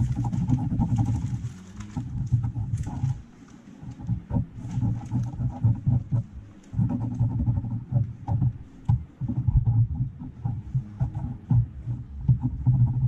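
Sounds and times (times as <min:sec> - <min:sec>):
pencil scribbling on paper: 0:00.0 - 0:03.3, 0:03.9 - 0:13.0.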